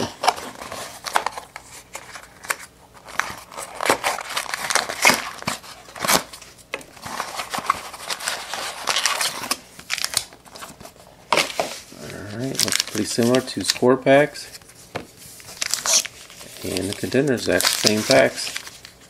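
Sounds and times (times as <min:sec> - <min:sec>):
cardboard and plastic crinkling: 0:00.0 - 0:13.9, 0:14.6 - 0:19.0.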